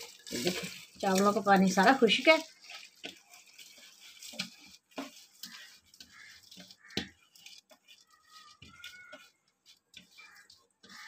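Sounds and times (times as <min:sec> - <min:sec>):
rice grains dropping into liquid: 0:00.0 - 0:11.0.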